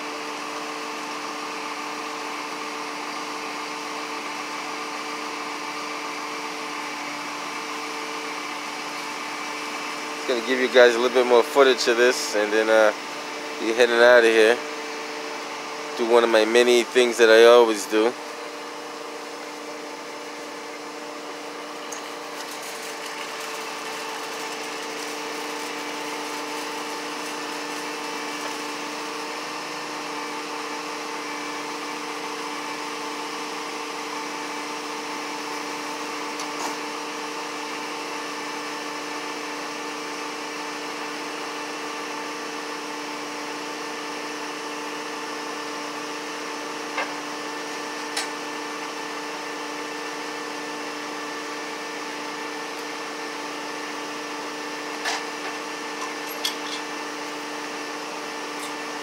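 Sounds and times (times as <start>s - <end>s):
steady mechanical hum with tones: 0.0s - 59.0s.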